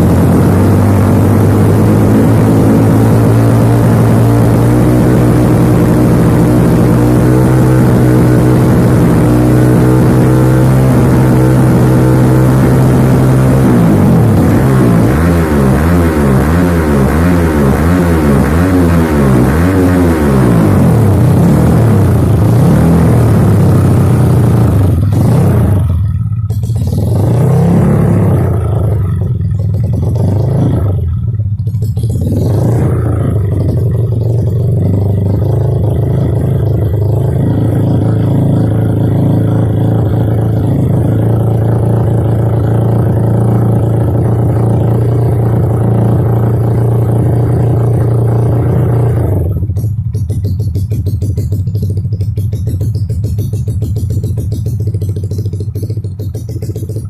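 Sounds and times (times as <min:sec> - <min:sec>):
motorbike engine revving and idling: 0:00.0 - 0:57.0.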